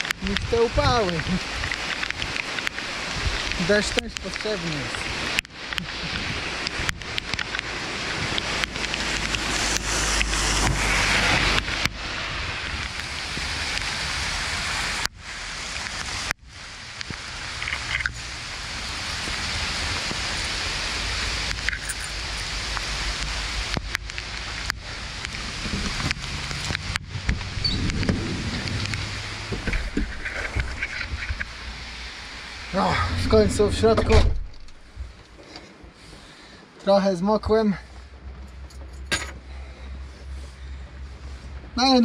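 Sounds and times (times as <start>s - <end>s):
wind rumbling on microphone: 0.0s - 36.8s
heavy rain falling: 0.0s - 38.4s.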